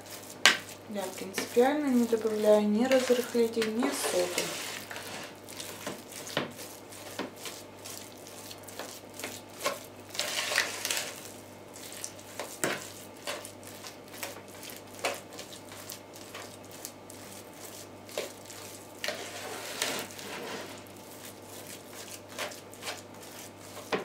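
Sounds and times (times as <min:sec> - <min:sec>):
utensil scraping plastic bowl: 0:00.0 - 0:11.3, 0:12.4 - 0:21.0
soft squishing of curd: 0:00.0 - 0:24.0.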